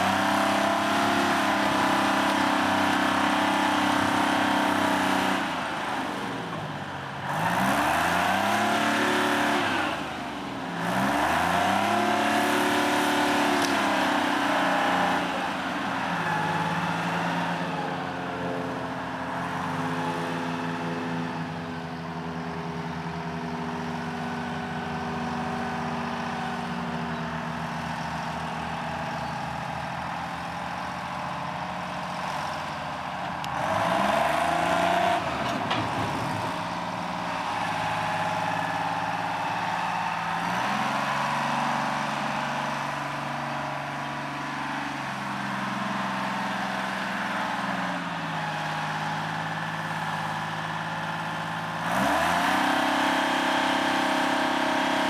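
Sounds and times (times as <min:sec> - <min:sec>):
digging machine engine: 0:00.0 - 0:55.0.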